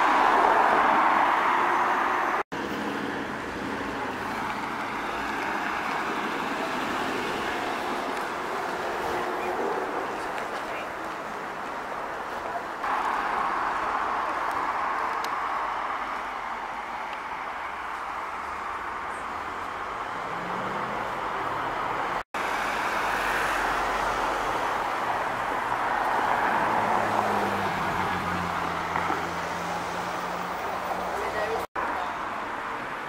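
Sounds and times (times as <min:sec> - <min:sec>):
road traffic: 0:00.0 - 0:33.0.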